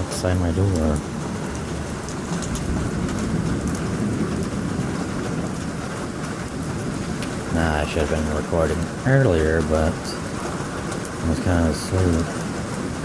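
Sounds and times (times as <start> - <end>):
rain pouring: 0.0 - 13.0
ticks of raindrops: 0.0 - 13.0.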